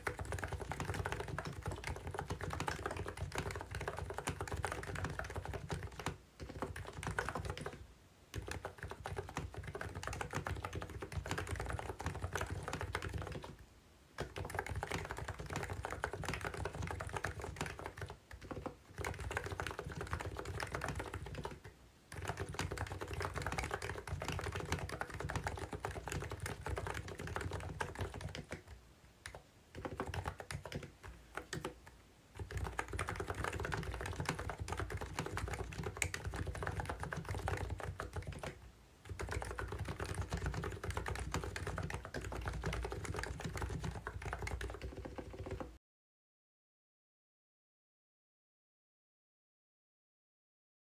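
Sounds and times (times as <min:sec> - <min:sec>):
keyboard typing: 0:00.0 - 0:13.6, 0:14.2 - 0:45.8.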